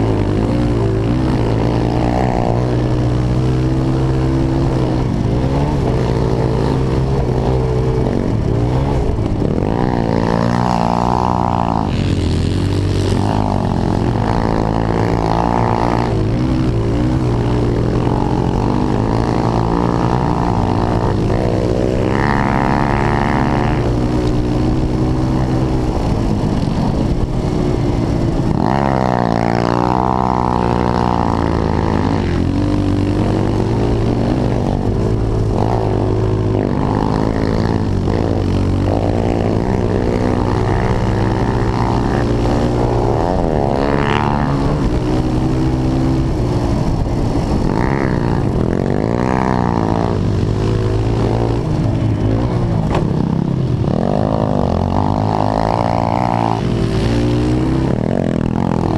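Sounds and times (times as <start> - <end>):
pit bike engine revving: 0.0 - 58.9.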